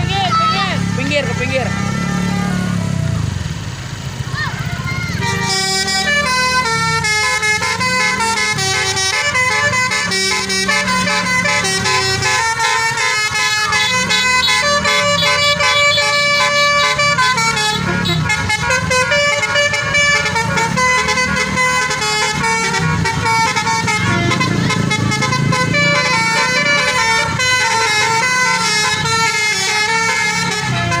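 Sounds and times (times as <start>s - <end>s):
engine running: 0.0s - 31.0s
multi-tone air horn melody: 5.1s - 31.0s.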